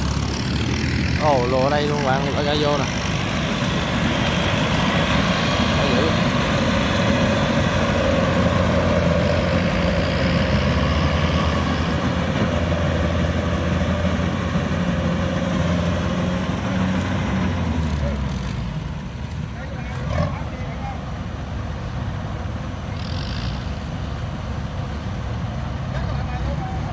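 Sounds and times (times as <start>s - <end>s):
diesel engine drone: 0.0s - 26.9s
harvester machinery whirring: 0.0s - 26.9s.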